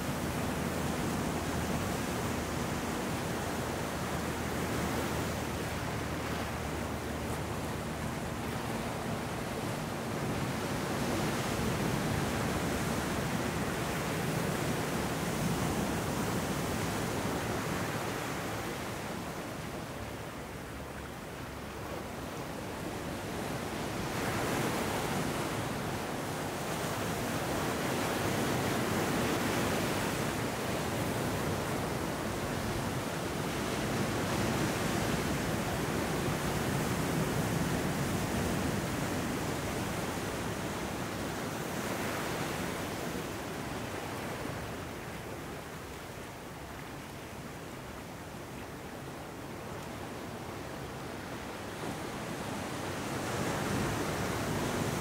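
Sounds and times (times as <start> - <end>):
ocean surf on beach: 0.0 - 55.0.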